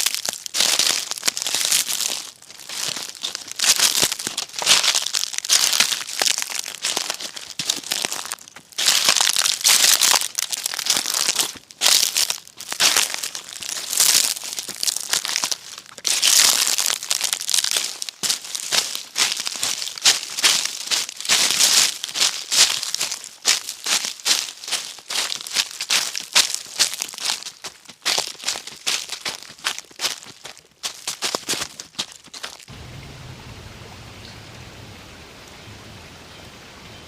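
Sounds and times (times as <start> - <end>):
footsteps crunching dry leaves: 0.0 - 32.7.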